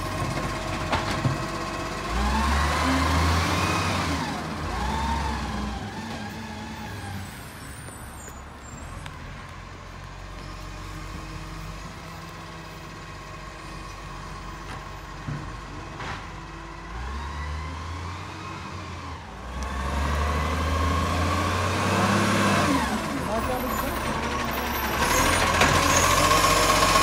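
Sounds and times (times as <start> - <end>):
garbage truck diesel engine: 0.0 - 27.0.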